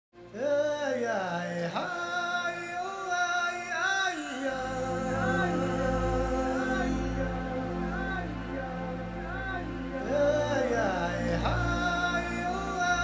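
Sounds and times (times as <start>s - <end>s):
wordless vocal melody: 0.2s - 13.0s.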